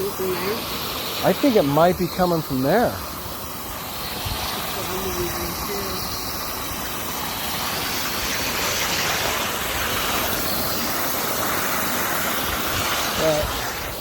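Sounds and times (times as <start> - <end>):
hiss of leaking water: 0.0 - 14.0.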